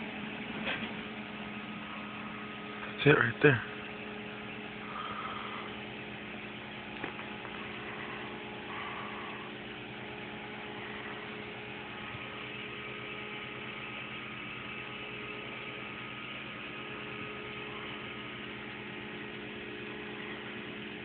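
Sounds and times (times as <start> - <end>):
air pump humming: 0.0 - 21.0.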